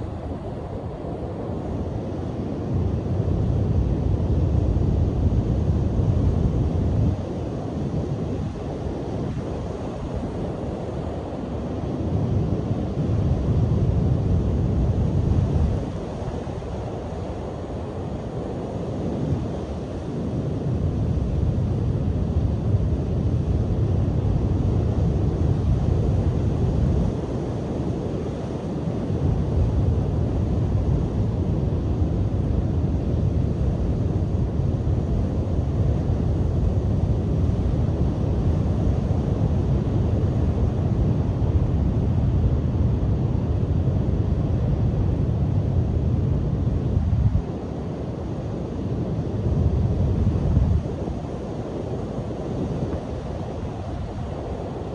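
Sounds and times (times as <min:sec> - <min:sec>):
gusty wind on microphone: 0:00.0 - 0:54.9.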